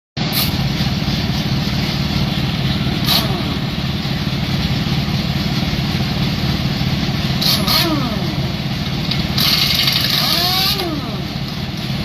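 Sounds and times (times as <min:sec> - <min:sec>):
truck engine idling: 0:00.2 - 0:12.0.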